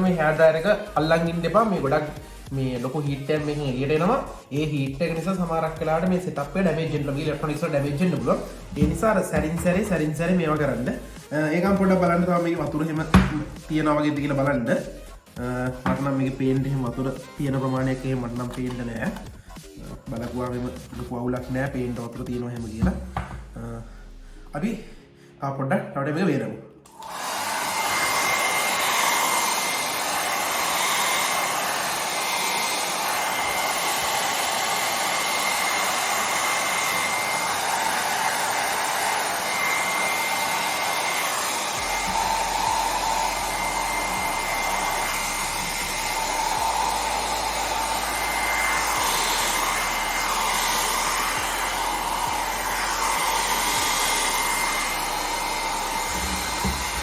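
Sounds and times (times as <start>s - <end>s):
hair dryer running: 0.0s - 14.7s, 15.4s - 19.5s, 20.1s - 21.9s, 22.7s - 23.7s, 26.9s - 57.0s.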